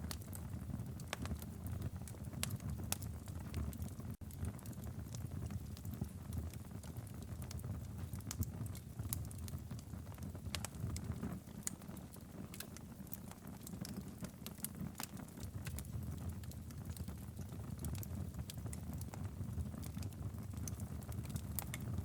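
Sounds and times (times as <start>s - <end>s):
fire pops and snaps: 0.0s - 22.0s
low rumble of burning fire: 0.0s - 22.0s.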